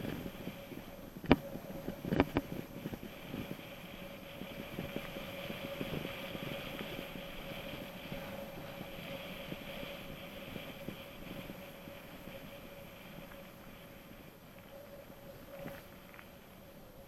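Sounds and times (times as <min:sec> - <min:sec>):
bike tyres rolling: 0:00.0 - 0:17.0
wind noise: 0:00.0 - 0:17.0.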